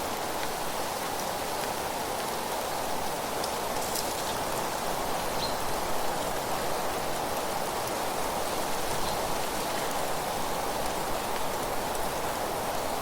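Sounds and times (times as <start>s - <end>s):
wind rustling leaves: 0.0s - 13.0s.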